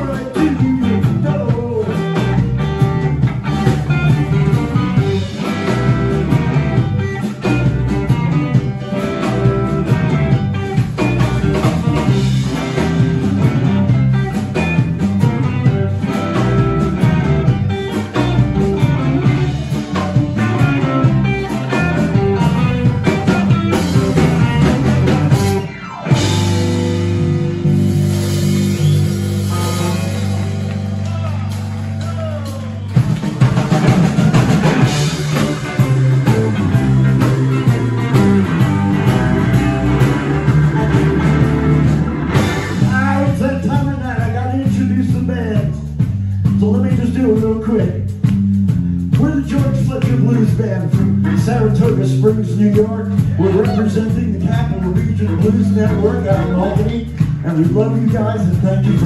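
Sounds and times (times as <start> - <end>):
electric blues band playing: 0.0 - 59.0
electric guitar: 0.0 - 59.0.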